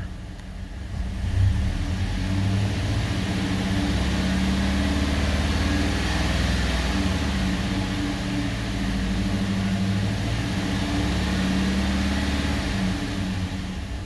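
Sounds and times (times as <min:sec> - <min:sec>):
truck engine revving: 0:00.8 - 0:14.0.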